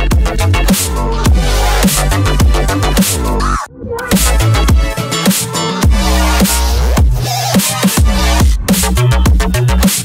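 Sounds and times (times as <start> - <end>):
dubstep music with heavy bass: 0.0 - 10.0.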